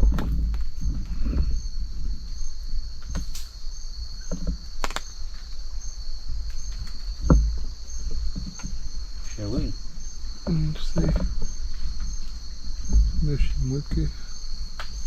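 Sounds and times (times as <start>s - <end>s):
crickets trilling: 0.0s - 15.0s
high insect chirp: 0.0s - 15.0s.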